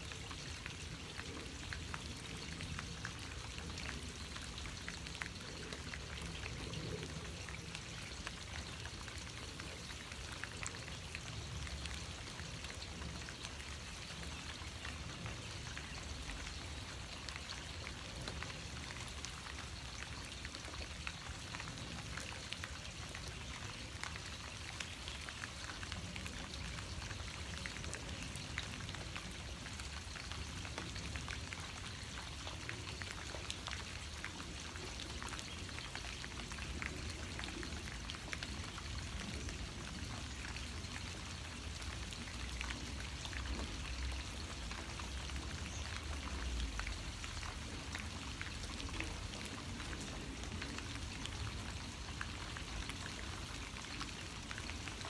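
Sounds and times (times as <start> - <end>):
raindrops ticking on surfaces: 0.0 - 55.0
steady rain falling: 0.0 - 55.0.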